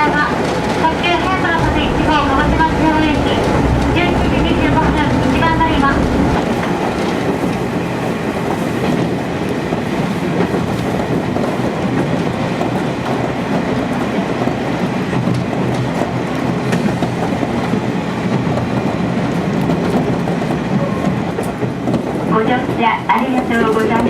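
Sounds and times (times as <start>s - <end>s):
railcar rumbling: 0.0s - 24.0s
wheels clicking over rail joints: 3.7s - 24.0s.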